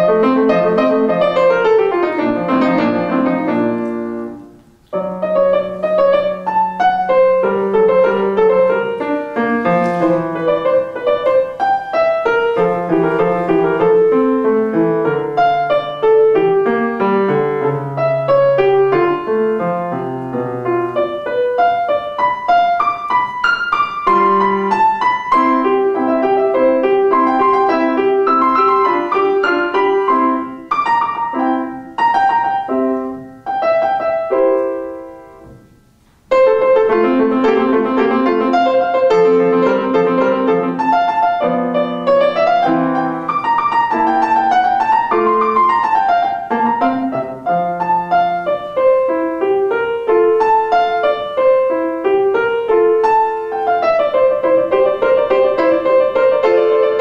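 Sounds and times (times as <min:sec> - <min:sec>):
grand piano playing: 0:00.0 - 0:57.0.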